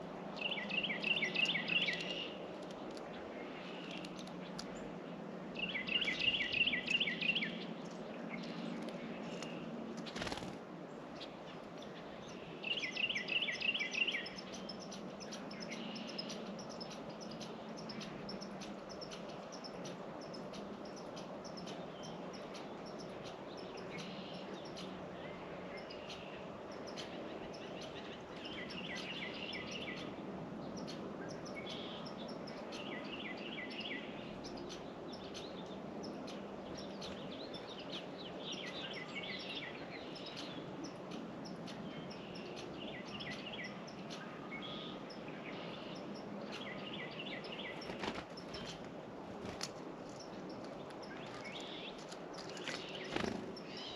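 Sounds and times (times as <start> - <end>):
songbird trill: 0.0 - 53.9.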